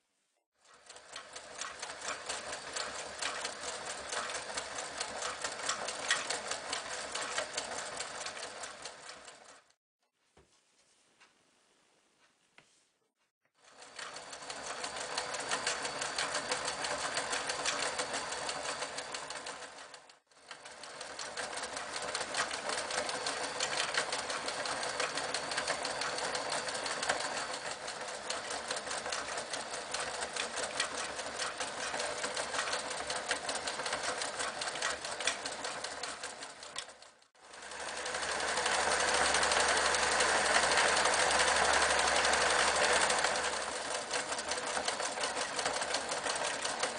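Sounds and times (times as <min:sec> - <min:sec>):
sewing machine stitching: 0:00.6 - 0:09.8, 0:13.6 - 0:46.9.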